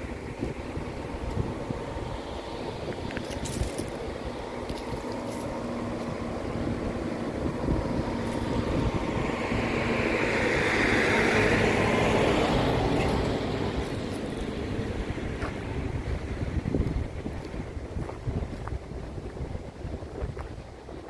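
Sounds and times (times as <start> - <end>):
steady rushing noise: 0.0 - 21.0
wind buffeting microphone: 0.0 - 21.0.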